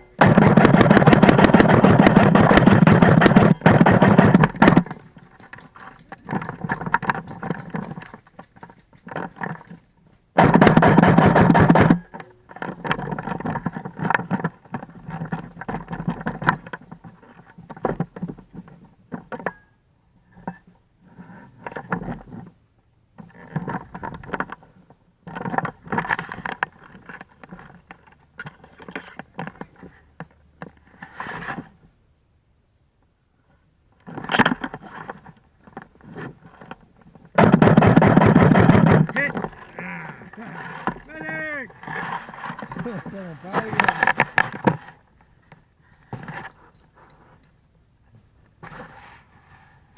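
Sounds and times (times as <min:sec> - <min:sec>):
clatter and rustle: 0:00.0 - 0:32.0, 0:33.4 - 0:49.9.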